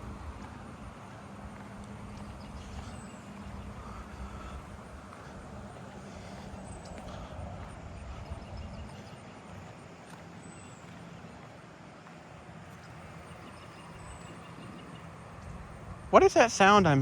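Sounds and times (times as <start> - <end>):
footsteps on pavement: 0.0 - 16.0
low steady rumble: 0.0 - 17.0.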